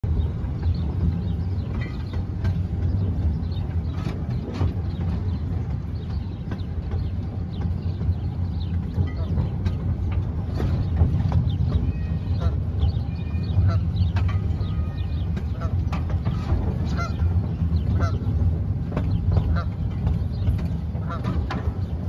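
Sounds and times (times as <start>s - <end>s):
small train rumbling on track: 0.0s - 22.0s.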